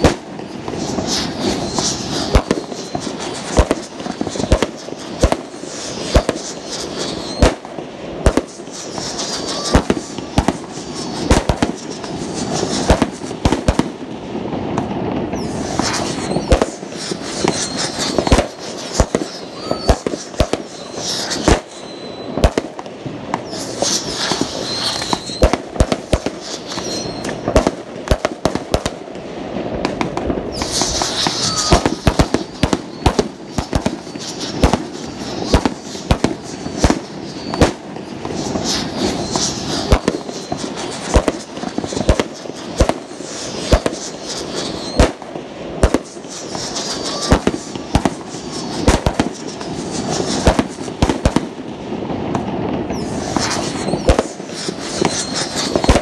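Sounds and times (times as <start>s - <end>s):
distant fireworks explosions: 0.0s - 56.0s
fireworks bangs: 0.0s - 56.0s
fireworks crackle: 0.0s - 56.0s.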